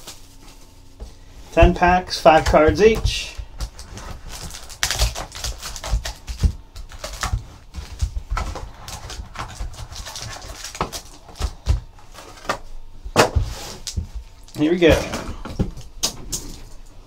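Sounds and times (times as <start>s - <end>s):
foil packs crinkling: 0.0s - 0.8s, 1.6s - 15.1s.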